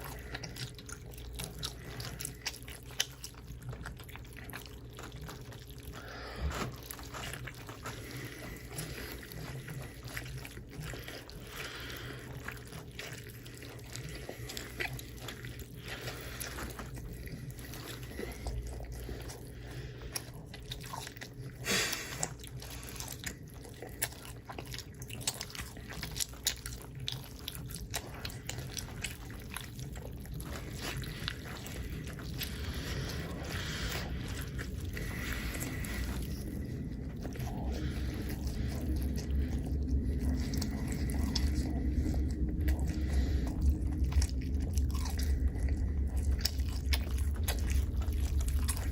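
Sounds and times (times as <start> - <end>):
close chewing and biting: 0.0 - 48.9
steady low hum: 0.0 - 48.9.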